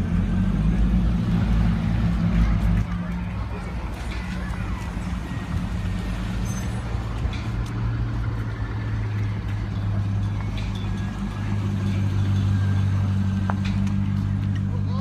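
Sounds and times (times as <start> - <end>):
car engines passing slowly: 0.0 - 15.0.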